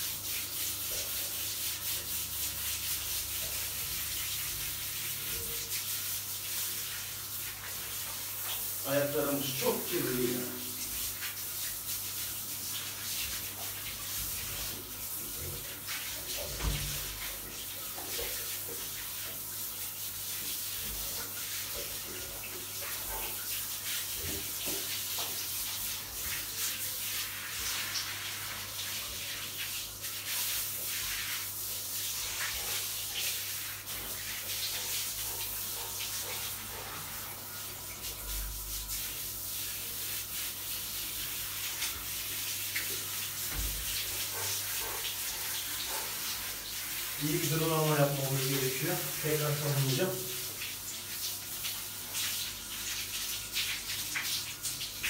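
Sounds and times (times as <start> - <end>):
shower water splashing on floor: 0.0 - 55.0.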